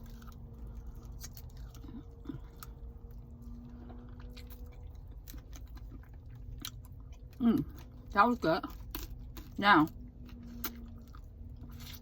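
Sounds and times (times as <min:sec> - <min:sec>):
person chewing: 0:00.0 - 0:08.1, 0:08.7 - 0:12.0.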